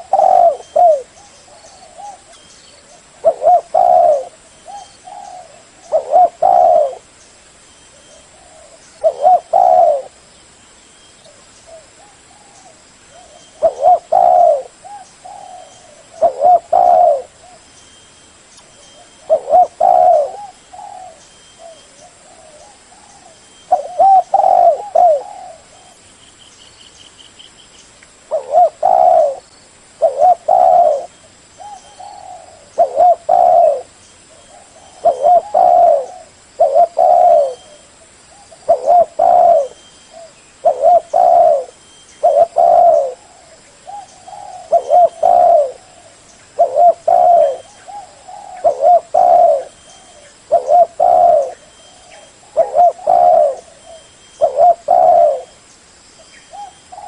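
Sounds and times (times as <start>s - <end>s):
dove cooing: 0.0s - 7.1s, 7.9s - 10.2s, 11.3s - 17.6s, 18.8s - 26.0s, 28.3s - 55.6s, 56.5s - 57.0s.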